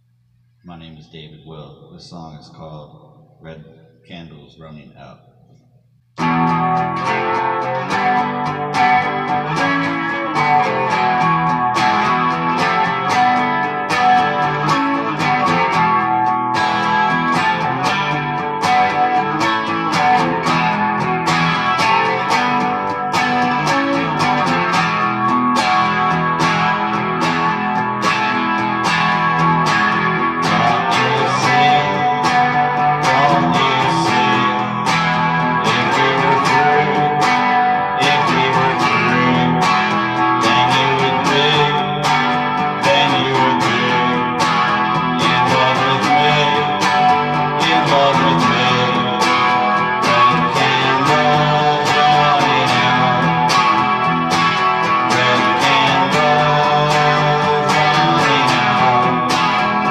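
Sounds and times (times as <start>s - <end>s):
electric guitar strumming chords: 6.2s - 59.9s.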